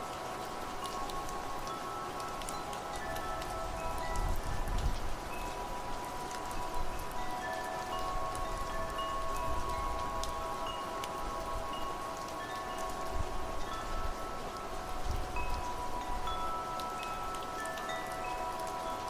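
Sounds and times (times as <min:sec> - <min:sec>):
steady hiss: 0:00.0 - 0:19.0
wind chimes ringing: 0:00.0 - 0:19.0.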